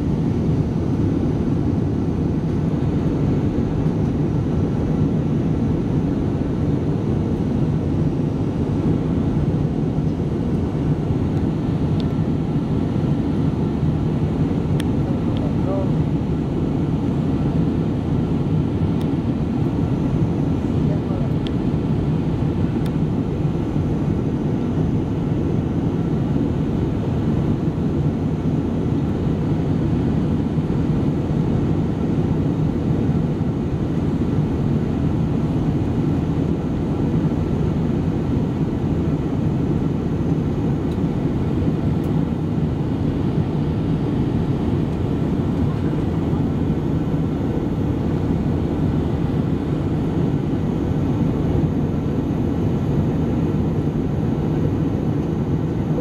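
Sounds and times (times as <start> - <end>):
jet cabin engine drone: 0.0 - 56.0.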